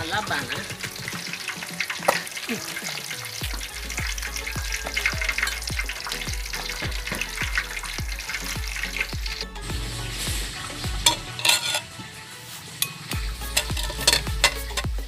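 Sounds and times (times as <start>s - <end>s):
low thumping background music: 0.0s - 15.0s
pork deep-frying in hot oil: 0.0s - 15.0s.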